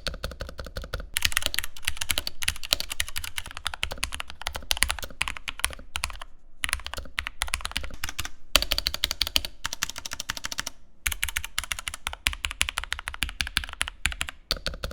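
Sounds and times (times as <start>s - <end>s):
mechanical keyboard typing: 0.0s - 14.9s.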